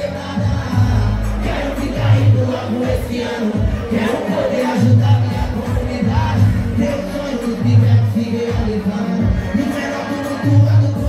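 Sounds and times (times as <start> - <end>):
crowd noise: 0.0 - 11.0
loud live music with heavy bass: 0.0 - 11.0.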